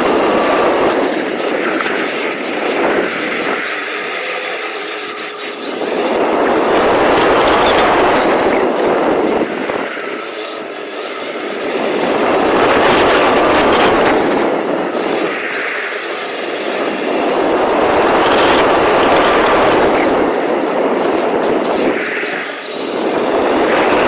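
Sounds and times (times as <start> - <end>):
radio-controlled car motor rumbling: 0.0 - 24.0.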